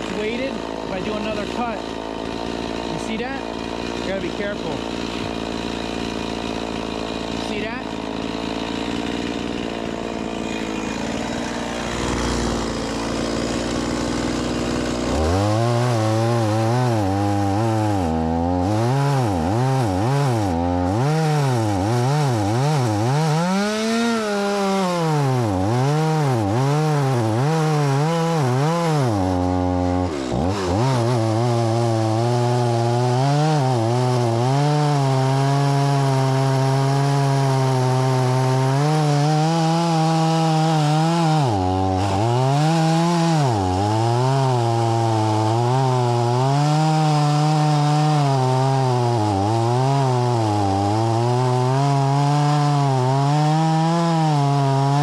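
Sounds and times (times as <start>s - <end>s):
chainsaw cutting through log: 0.0s - 55.0s
chainsaw revving: 0.0s - 55.0s.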